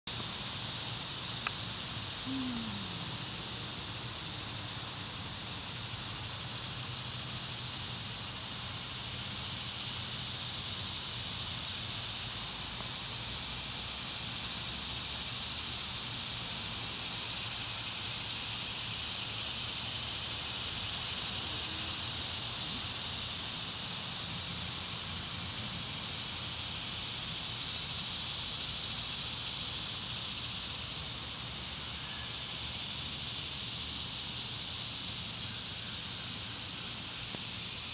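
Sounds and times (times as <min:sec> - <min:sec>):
high-pitched outdoor hiss: 0:00.0 - 0:37.9.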